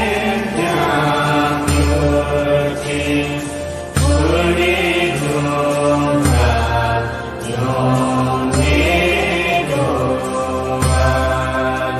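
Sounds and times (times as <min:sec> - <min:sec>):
chanted mantra: 0:00.0 - 0:11.9.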